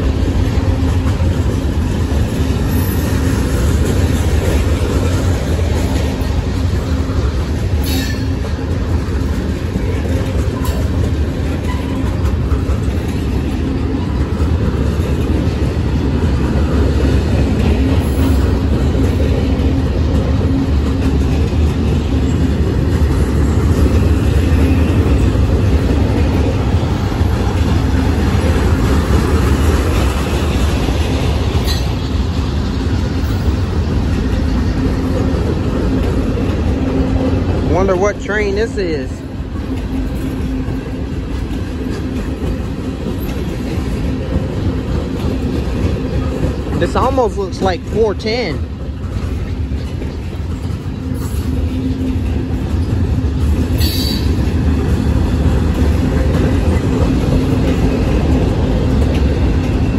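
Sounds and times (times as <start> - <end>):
freight train wheels rumbling: 0.0 - 59.9
sharp clicks of train wheels: 0.0 - 59.9.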